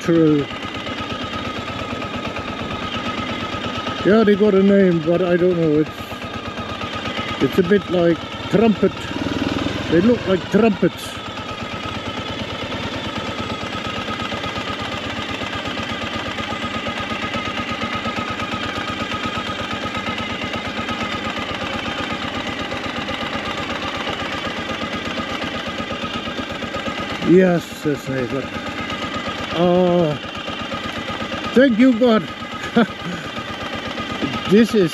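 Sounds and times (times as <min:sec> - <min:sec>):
motorcycle engine puttering: 0:00.0 - 0:34.9.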